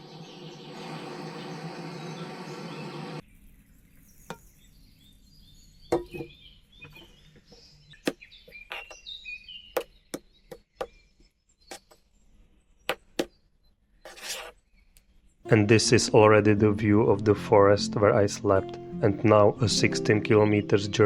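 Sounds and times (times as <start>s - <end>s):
birds chirping: 0.0s - 3.2s, 3.9s - 21.0s.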